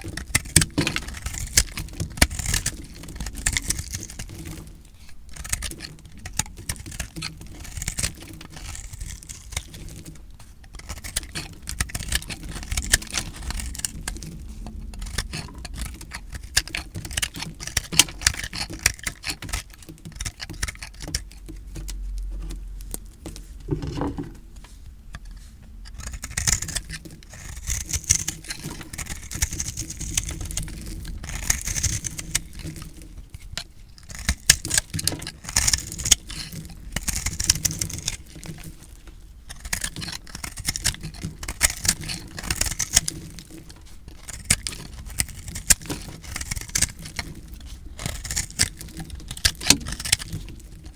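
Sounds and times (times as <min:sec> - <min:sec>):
knife cutting crumbly soap: 0:00.0 - 0:50.9.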